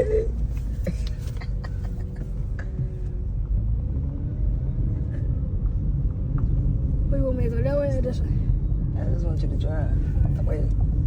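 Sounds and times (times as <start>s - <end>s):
car rolling low rumble: 0.0s - 11.0s.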